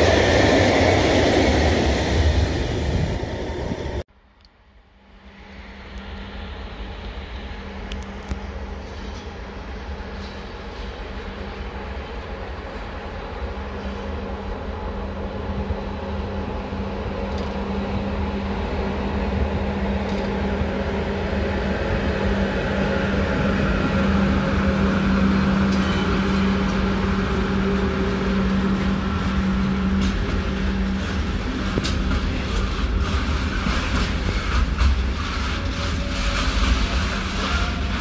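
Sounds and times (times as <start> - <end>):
train running past: 0.0 - 4.0, 5.0 - 38.0.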